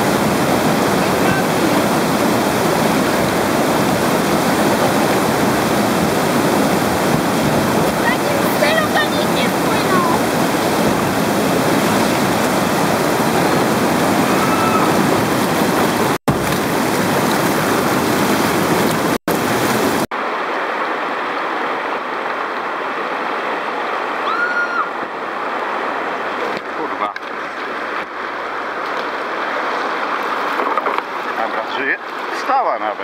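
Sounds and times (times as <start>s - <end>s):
river rapids rushing over boulders: 0.0s - 33.0s.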